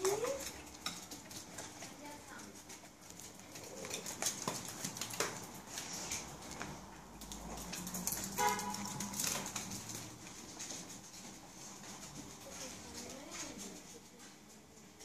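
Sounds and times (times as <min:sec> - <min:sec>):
dog claws clicking on wooden floor: 0:00.0 - 0:14.6.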